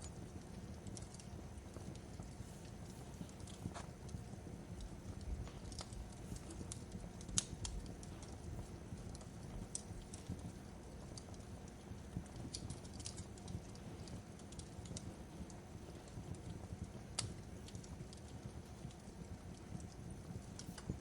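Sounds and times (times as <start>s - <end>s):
fireplace crackling: 0.0s - 21.0s.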